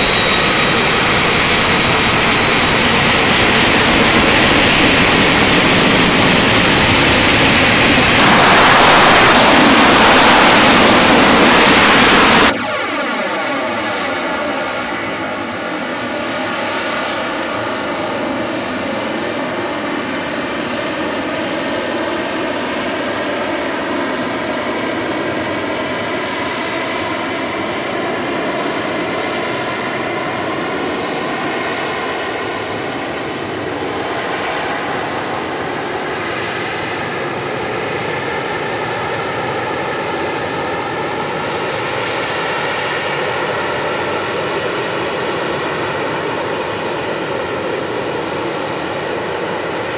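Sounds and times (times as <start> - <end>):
jet engine running with whine: 0.0 - 49.9.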